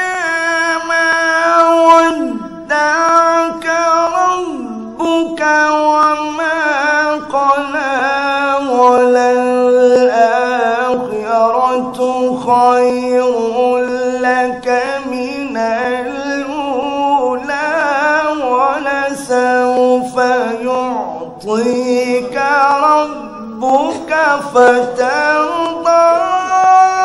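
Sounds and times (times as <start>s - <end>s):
man chanting melodically: 0.0s - 27.0s.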